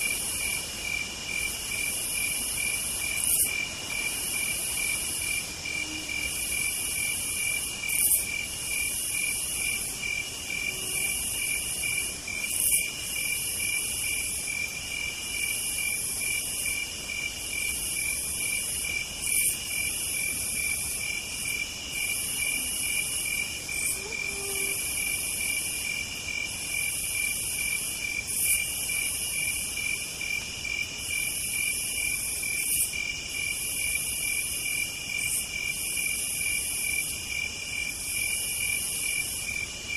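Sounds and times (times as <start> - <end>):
insect buzzing song: 0.0 - 39.9
insects fast-pulsing trill: 0.0 - 39.9.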